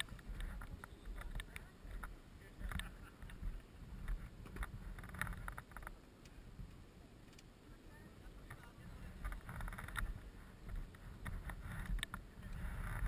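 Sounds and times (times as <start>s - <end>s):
handling clicks and rustles: 0.0s - 7.6s, 8.4s - 13.0s
wind rumble on microphone: 0.0s - 13.0s.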